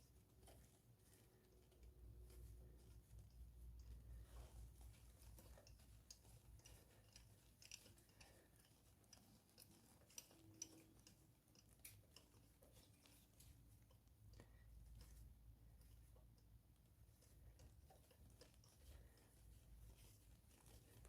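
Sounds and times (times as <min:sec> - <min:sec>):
faint small clicks and ticks: 0:00.0 - 0:21.0.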